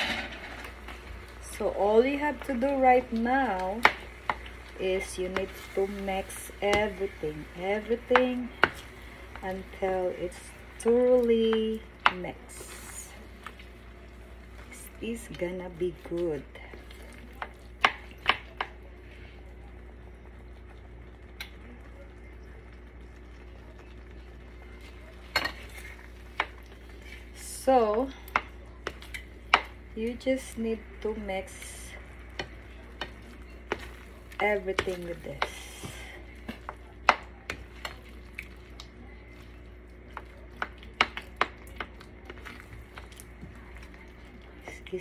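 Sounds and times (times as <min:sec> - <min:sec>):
steady low hum: 0:00.0 - 0:45.0
spatula stirring thick dip: 0:00.4 - 0:19.1, 0:24.7 - 0:45.0.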